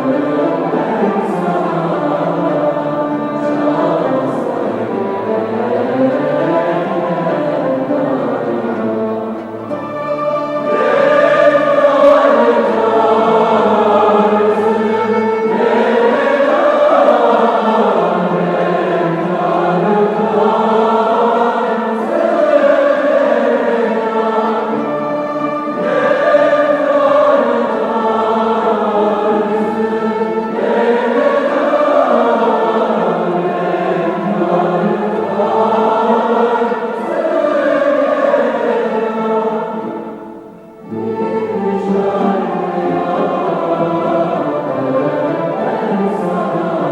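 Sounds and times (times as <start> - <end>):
choir singing: 0.0 - 46.9.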